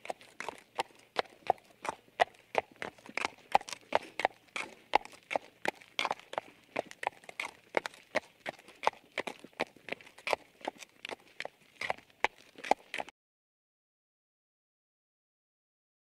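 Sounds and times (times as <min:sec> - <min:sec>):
horse hooves clip-clopping: 0:00.0 - 0:13.1.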